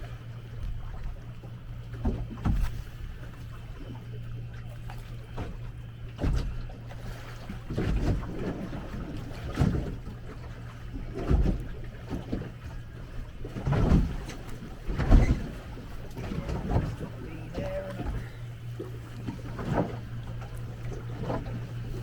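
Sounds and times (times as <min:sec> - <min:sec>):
sea slapping against boat hull: 0:00.0 - 0:22.0.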